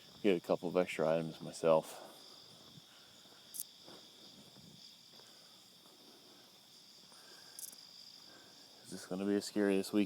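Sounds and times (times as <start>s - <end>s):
insect chorus: 0.0s - 10.0s.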